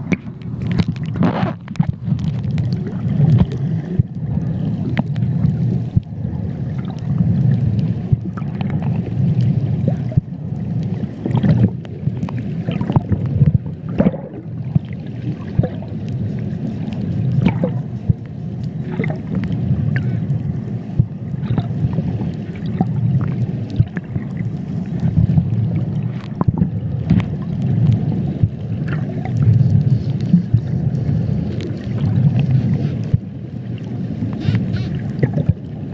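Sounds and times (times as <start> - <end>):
clicks and crackles: 0.0 - 35.9
underwater low rumble: 0.0 - 35.9.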